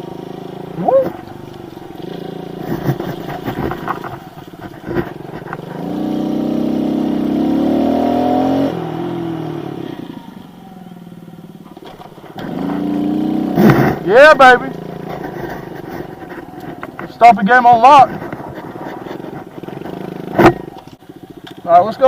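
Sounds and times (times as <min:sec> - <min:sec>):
engine knocks and rattles: 0:00.0 - 0:22.0
small motorbike engine revving: 0:00.0 - 0:22.0.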